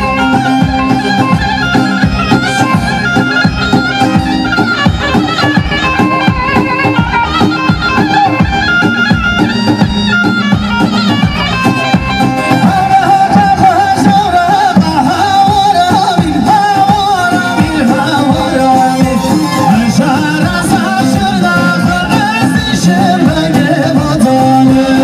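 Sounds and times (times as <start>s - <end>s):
folk music melody: 0.0s - 25.0s
steady drumbeat: 0.0s - 25.0s.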